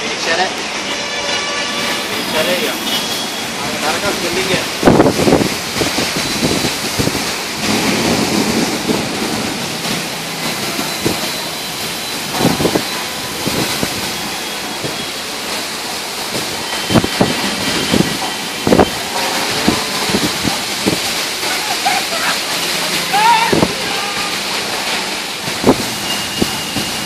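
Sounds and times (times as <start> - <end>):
heavy rain in strong wind: 0.0 - 27.0.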